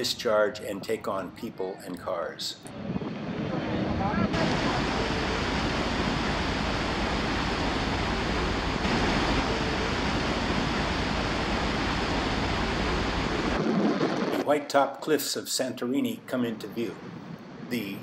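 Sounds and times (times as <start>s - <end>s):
wind and sea rushing: 0.0s - 18.0s.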